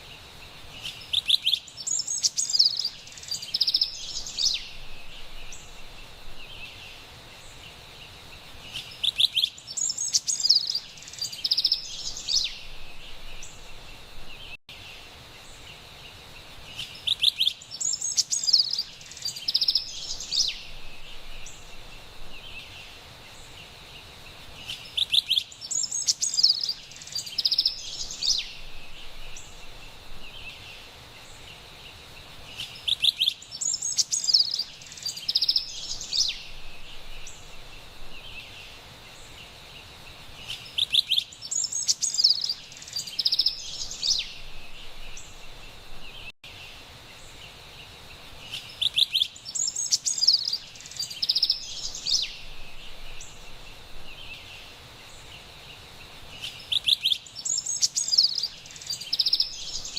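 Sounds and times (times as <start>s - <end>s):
faint forest ambience hiss: 0.0s - 59.9s.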